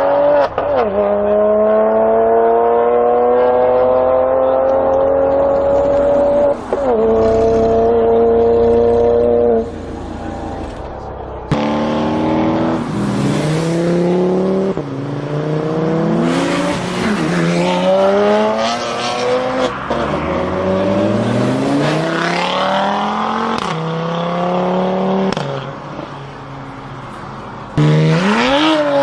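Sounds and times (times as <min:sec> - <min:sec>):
car engine revving and accelerating: 0:00.0 - 0:10.6, 0:11.5 - 0:25.7, 0:27.8 - 0:29.0.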